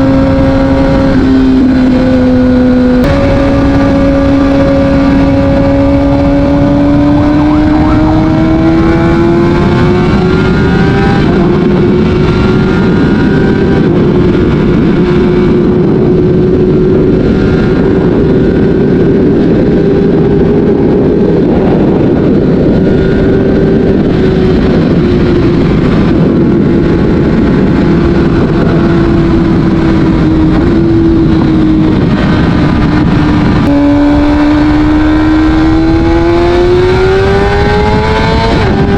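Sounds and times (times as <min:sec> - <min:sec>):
motorcycle engine revving: 0:00.0 - 0:38.9
road and wind rush: 0:00.0 - 0:38.9.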